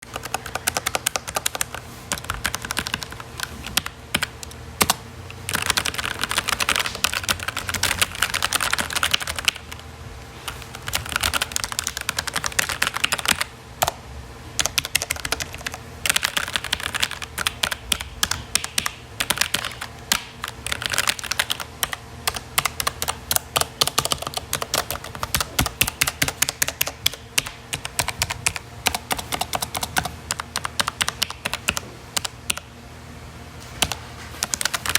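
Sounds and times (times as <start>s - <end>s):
typing on computer keyboard: 0.0s - 9.8s, 10.5s - 14.0s, 14.6s - 32.7s, 33.8s - 34.9s.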